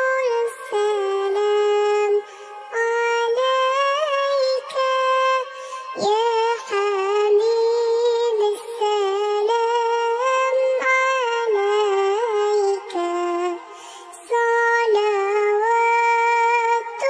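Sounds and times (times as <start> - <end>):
high-pitched voice singing: 0.0 - 17.0.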